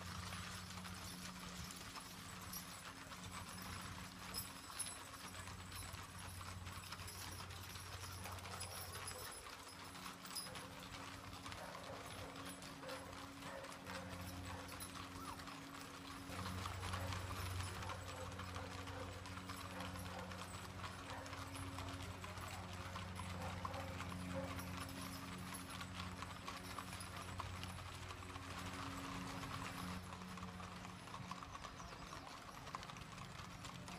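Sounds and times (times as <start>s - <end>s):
hooves clip-clopping on pavement: 0.0s - 33.9s
wagon wheels rattling: 0.0s - 33.9s.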